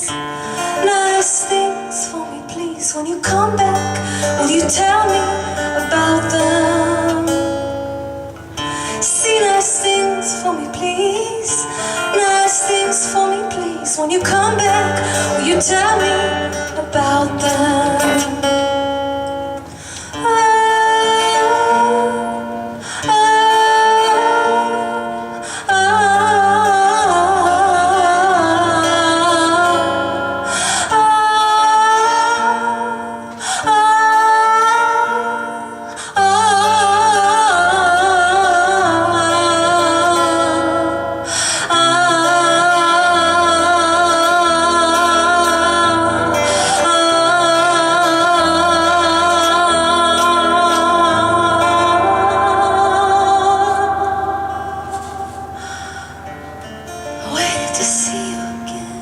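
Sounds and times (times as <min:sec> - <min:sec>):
guitar: 0:00.0 - 0:59.0
woman singing with vibrato: 0:00.0 - 0:59.0.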